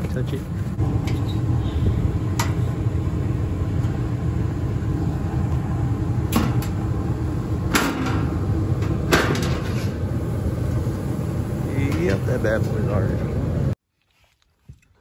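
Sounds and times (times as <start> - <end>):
gas furnace rumbling: 0.0 - 13.8.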